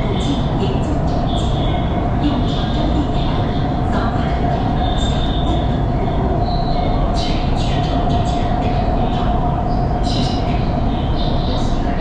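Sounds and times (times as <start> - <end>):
steady hum: 0.0 - 12.0
train wheel rumble: 0.0 - 12.0.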